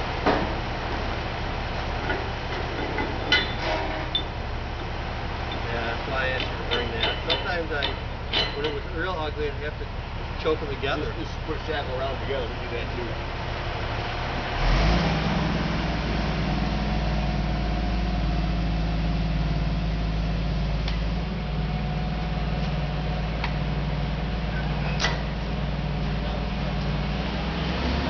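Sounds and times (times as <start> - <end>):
crane engine running: 0.0 - 28.0.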